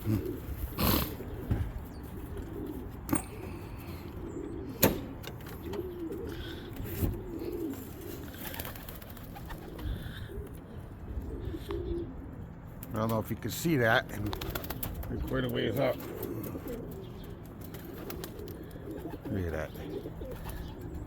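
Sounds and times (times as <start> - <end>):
pigeons cooing: 0.0 - 12.8, 14.0 - 21.0.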